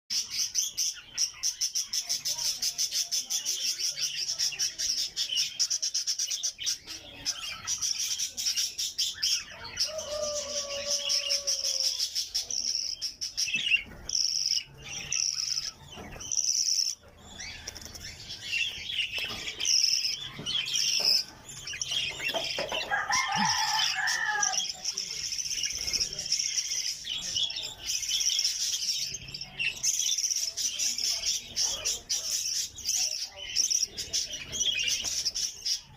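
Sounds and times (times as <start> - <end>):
budgerigars chattering and chirping: 0.1 - 35.9.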